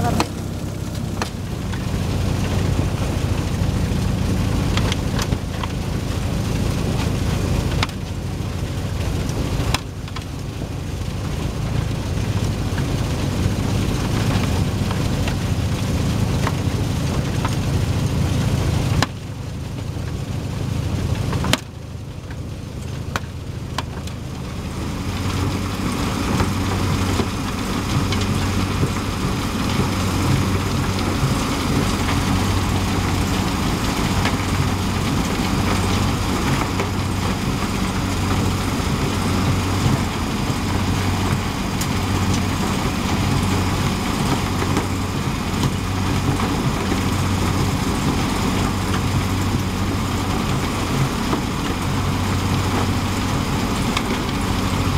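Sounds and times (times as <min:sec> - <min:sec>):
crusher engine hum: 0:00.0 - 0:54.9.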